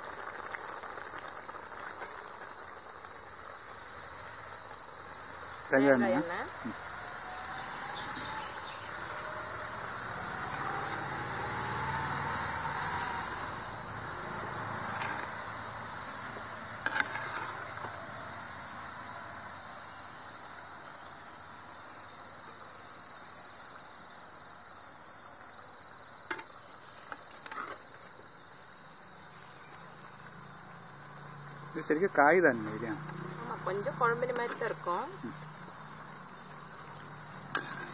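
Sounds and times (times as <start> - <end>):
curry sizzling in a pot: 0.0 - 37.9.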